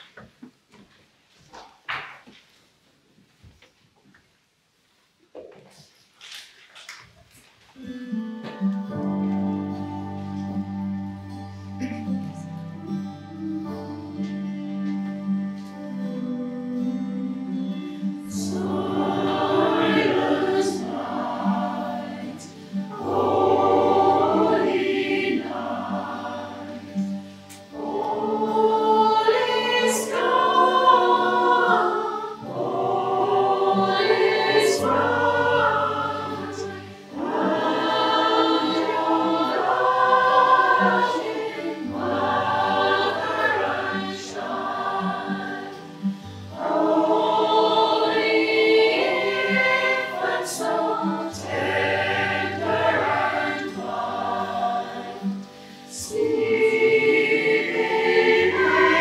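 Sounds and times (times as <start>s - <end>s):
choir singing: 8.6s - 59.0s
low sustained accompaniment notes: 8.6s - 59.0s.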